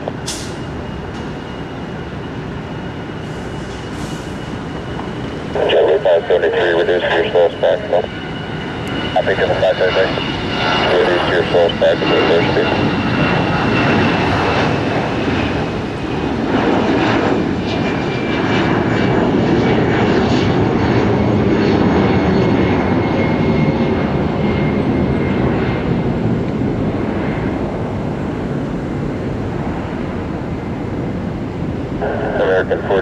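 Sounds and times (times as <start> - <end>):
faint jet whine: 0.0 - 33.0
jet engines rumbling at takeoff: 0.0 - 33.0.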